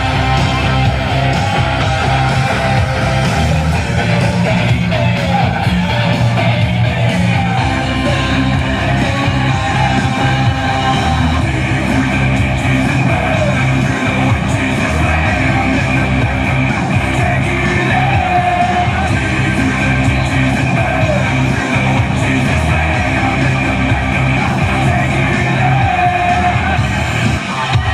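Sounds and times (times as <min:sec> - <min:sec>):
person singing: 0:00.0 - 0:27.9
rock music with guitars: 0:00.0 - 0:27.9.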